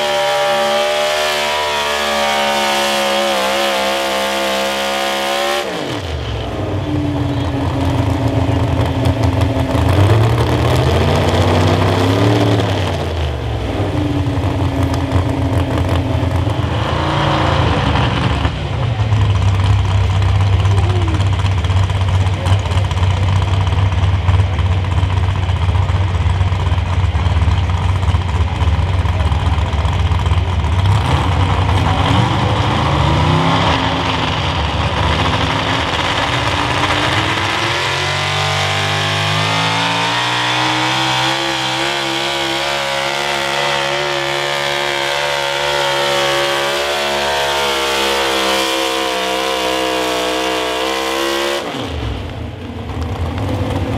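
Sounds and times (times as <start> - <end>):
truck engine revving under load: 0.0 - 26.6, 28.2 - 53.9.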